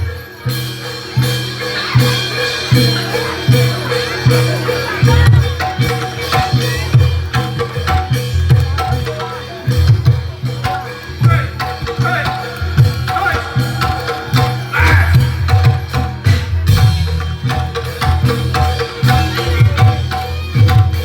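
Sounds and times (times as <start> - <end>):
hand drums beating: 0.0 - 21.0
ringing metal percussion: 0.0 - 21.0.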